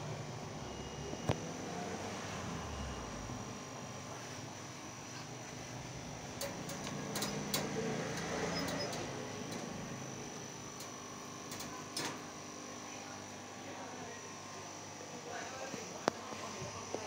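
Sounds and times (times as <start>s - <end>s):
faint high whine: 0.0s - 17.0s
steady background hum: 0.0s - 17.0s.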